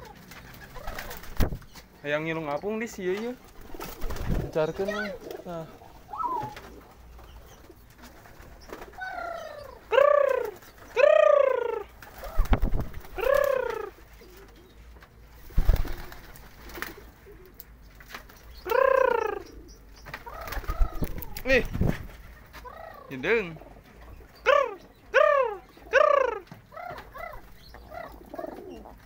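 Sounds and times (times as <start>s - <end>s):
pigeons cooing: 0.0s - 1.5s, 3.5s - 17.7s, 18.5s - 29.0s.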